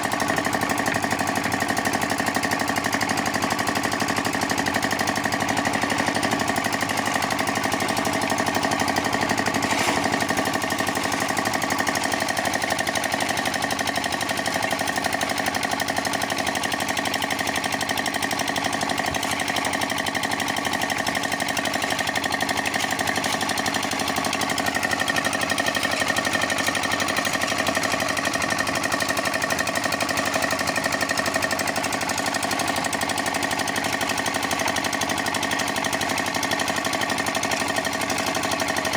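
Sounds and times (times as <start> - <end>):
concrete mixer running: 0.0 - 38.9.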